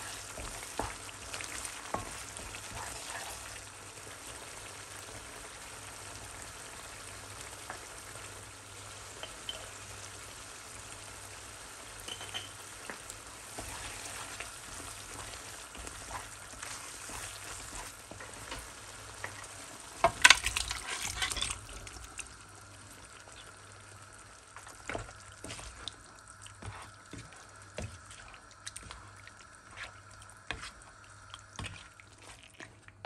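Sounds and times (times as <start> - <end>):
meat sizzling in a pan: 0.0 - 32.4.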